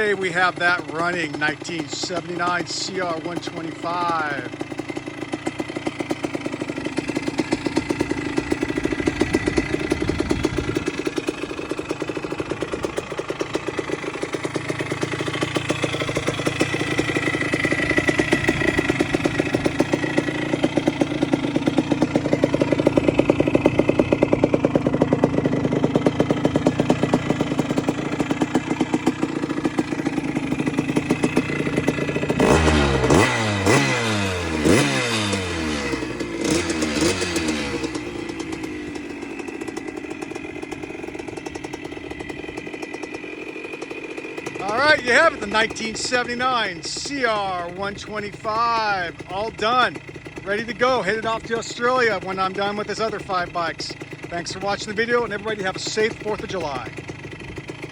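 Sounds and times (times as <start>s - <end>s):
engine revving: 0.0s - 57.9s
two-stroke motorcycle engine idling: 0.0s - 57.9s.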